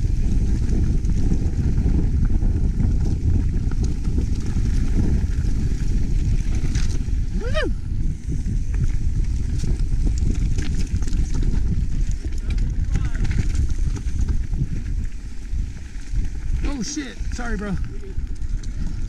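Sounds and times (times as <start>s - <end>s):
mountain bike rumbling and rattling: 0.0s - 19.0s
wind on microphone: 0.0s - 19.0s.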